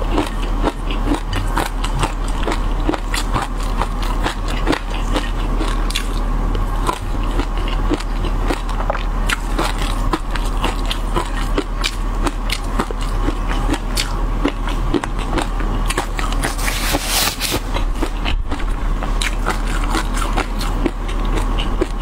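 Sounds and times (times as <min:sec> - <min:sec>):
wet chewing and biting: 0:00.0 - 0:22.0.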